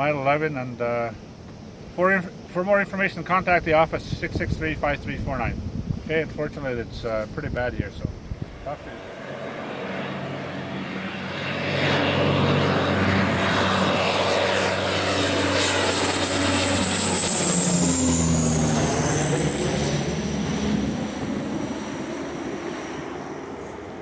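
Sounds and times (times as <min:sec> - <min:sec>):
propeller airplane flying overhead: 0:00.0 - 0:24.0.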